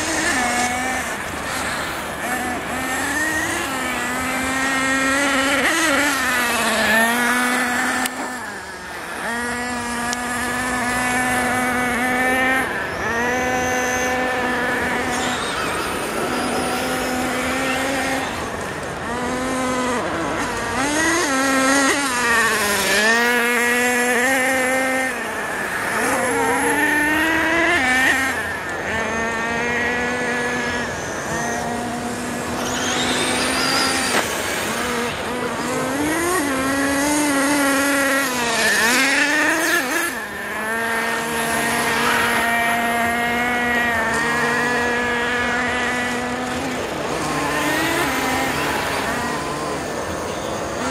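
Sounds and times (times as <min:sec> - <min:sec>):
model car engines buzzing: 0:00.0 - 0:50.9.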